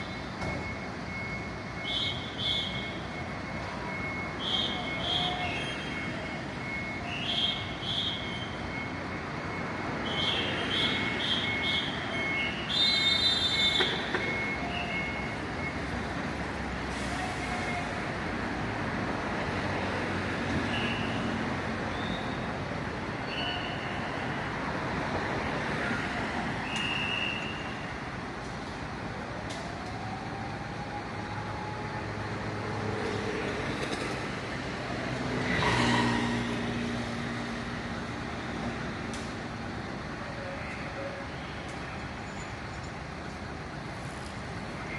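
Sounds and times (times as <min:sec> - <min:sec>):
vehicles passing: 0:00.0 - 0:44.9.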